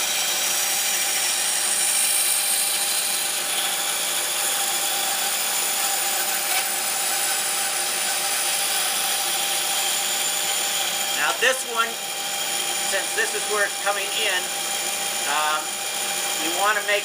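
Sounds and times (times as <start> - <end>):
bandsaw cutting wood: 0.0 - 17.0.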